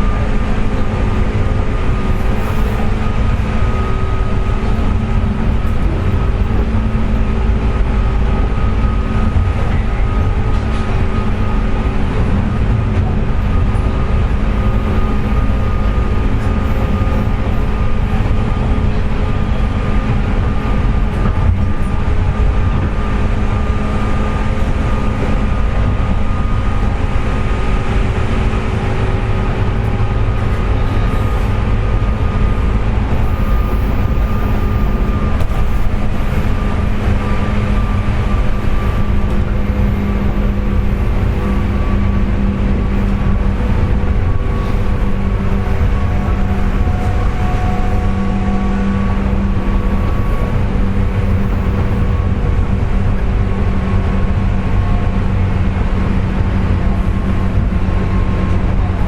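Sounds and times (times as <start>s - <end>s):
electric train motor whine: 0.0s - 59.0s
train wheels rumbling on rail: 0.0s - 59.0s.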